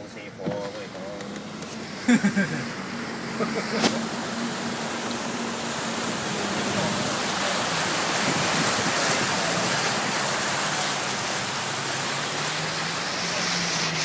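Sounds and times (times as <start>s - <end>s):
engine running low: 0.0s - 14.0s
water rushing against vehicle: 0.0s - 14.0s.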